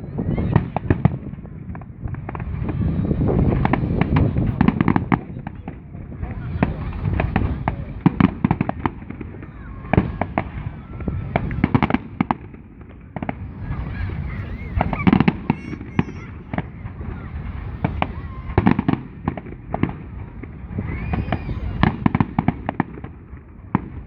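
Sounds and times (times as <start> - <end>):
crowd voices: 0.0 - 24.0
fireworks bangs and crackles: 0.0 - 24.0.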